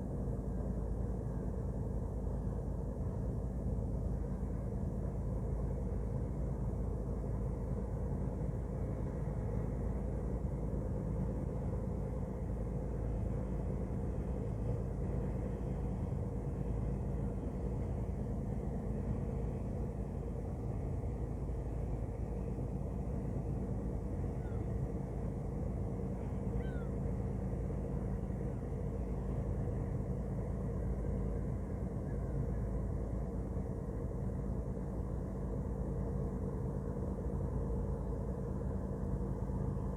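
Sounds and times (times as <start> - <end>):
ship engine running: 0.0 - 39.9.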